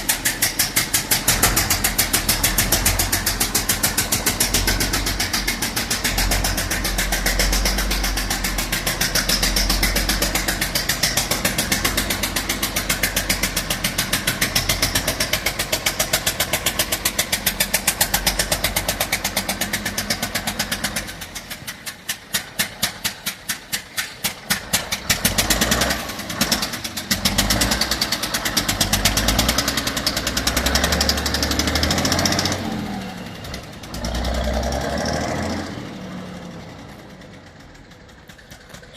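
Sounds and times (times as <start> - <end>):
diesel engine running rough: 0.0 - 38.9.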